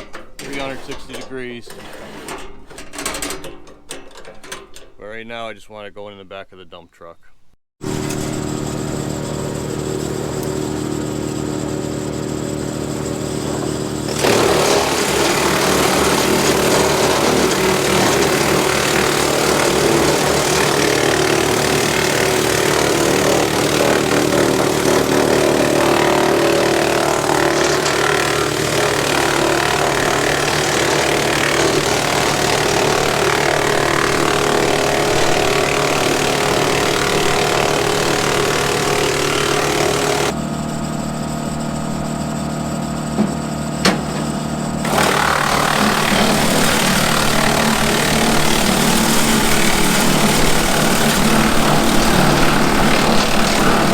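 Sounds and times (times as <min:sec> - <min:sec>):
tractor diesel engine: 0:00.0 - 0:02.5, 0:07.8 - 0:53.9
wood chipper humming: 0:07.8 - 0:53.9.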